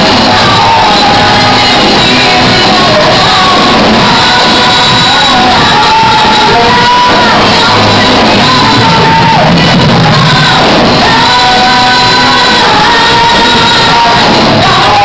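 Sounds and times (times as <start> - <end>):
person singing long held notes: 0.0 - 15.0.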